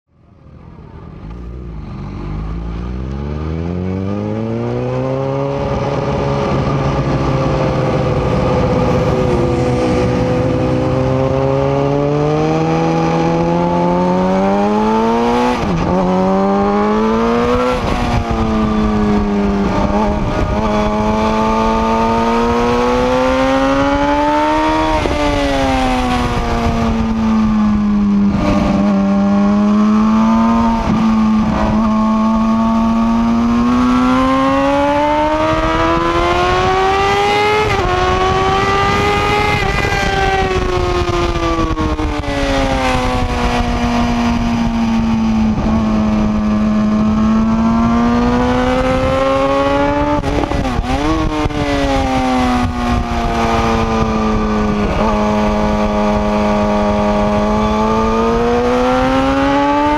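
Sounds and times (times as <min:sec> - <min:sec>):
motorcycle engine revving: 0:00.3 - 0:59.9
wind rushing: 0:03.5 - 0:59.8.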